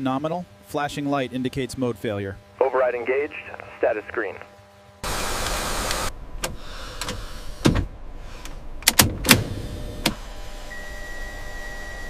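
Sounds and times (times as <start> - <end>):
steady hum: 2.1 - 12.0.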